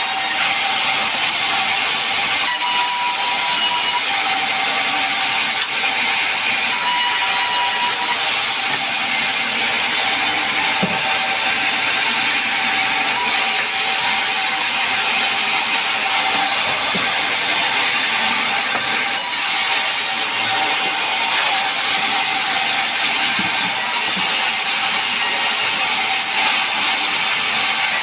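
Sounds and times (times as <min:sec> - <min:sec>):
saw cutting timber: 0:00.0 - 0:28.0.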